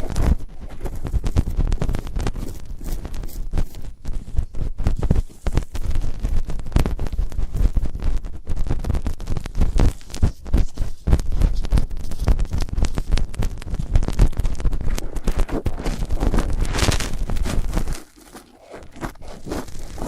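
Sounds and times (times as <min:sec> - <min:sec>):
rubbing and scratching on microphone: 0:00.0 - 0:20.0.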